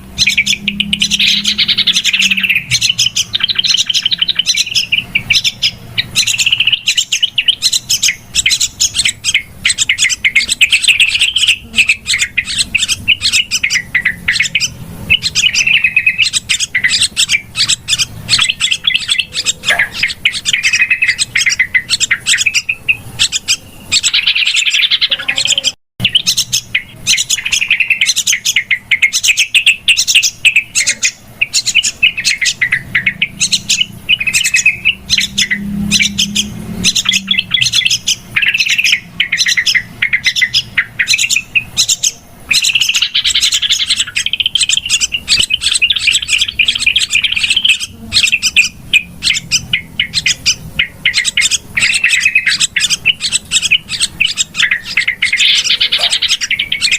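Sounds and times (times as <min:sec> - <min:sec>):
bulbuls chattering: 0:00.0 - 0:56.9.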